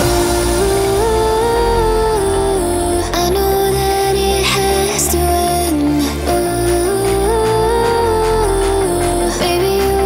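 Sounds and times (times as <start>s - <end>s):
steady bass: 0.0s - 10.0s.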